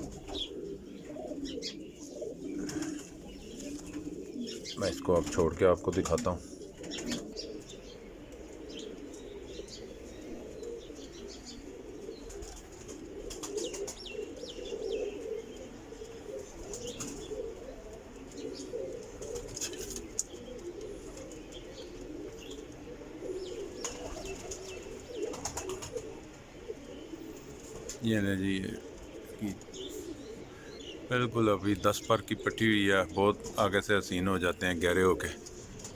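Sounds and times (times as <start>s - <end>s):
pigeons cooing: 0.0s - 35.9s
wings fluttering: 2.0s - 30.4s, 34.6s - 35.9s.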